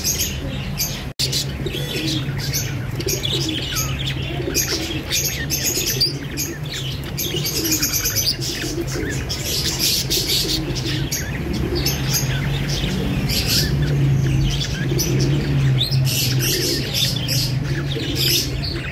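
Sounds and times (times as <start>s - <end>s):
pigeons cooing: 0.0s - 18.9s
small birds chirping: 0.0s - 18.9s.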